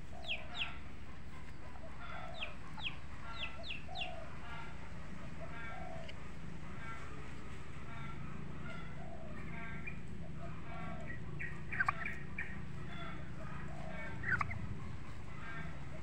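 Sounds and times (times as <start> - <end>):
soft turkey calls: 0.0 - 16.0
turkeys gobbling: 0.0 - 16.0.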